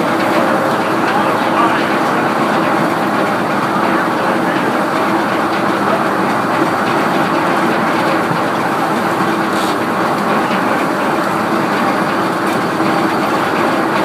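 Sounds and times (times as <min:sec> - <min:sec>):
mechanical hum: 0:00.0 - 0:14.0
sawmill machinery clatter: 0:00.0 - 0:14.0.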